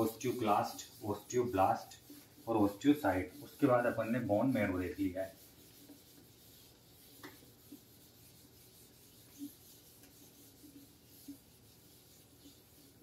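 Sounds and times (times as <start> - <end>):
eraser rubbing whiteboard: 0.0 - 13.0.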